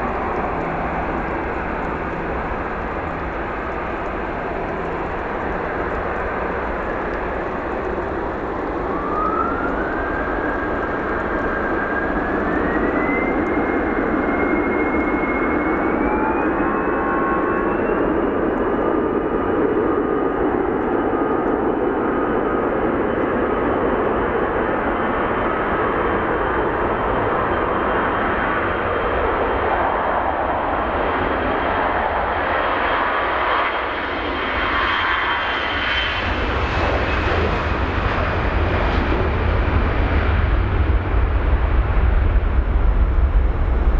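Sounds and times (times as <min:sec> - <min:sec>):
jet engines roaring at takeoff: 0:00.0 - 0:43.9.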